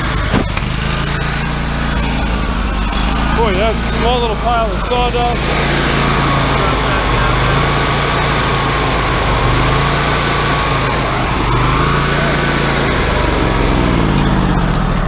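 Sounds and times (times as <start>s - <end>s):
high whine: 0.0s - 15.0s
sawmill engine running: 0.0s - 15.0s.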